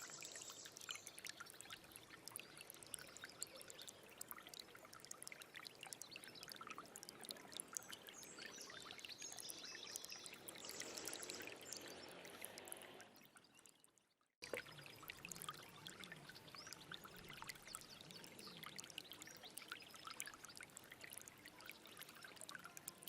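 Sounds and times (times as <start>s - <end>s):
small stream trickling: 0.0s - 23.0s.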